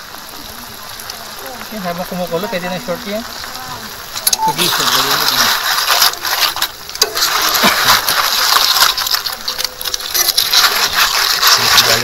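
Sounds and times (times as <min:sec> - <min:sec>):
boiling pot hissing: 0:00.0 - 0:12.0.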